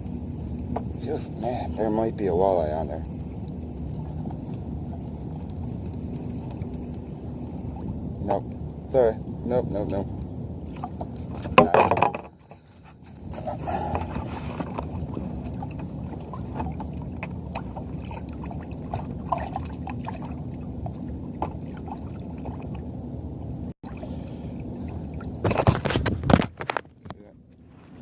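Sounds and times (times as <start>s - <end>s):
water sloshing against hull: 0.0s - 26.7s.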